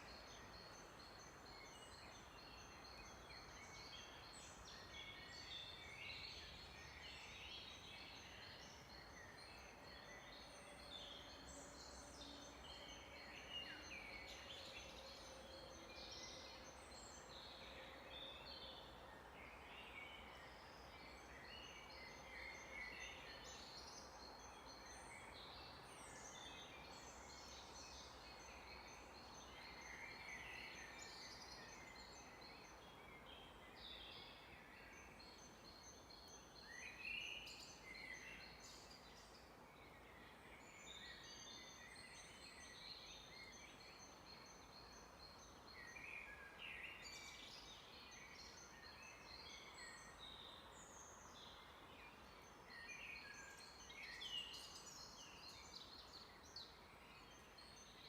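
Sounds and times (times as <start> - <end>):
soft steady hiss: 0.0 - 58.0.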